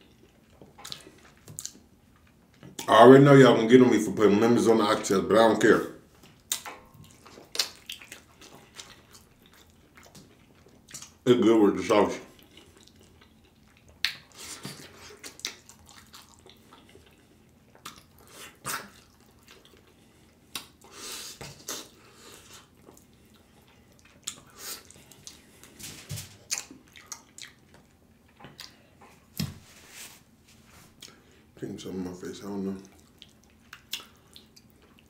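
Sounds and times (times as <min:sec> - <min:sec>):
wet eating and lip smacks: 0:00.0 - 0:02.9, 0:06.2 - 0:11.2, 0:12.3 - 0:29.6, 0:30.8 - 0:31.4, 0:32.7 - 0:35.0.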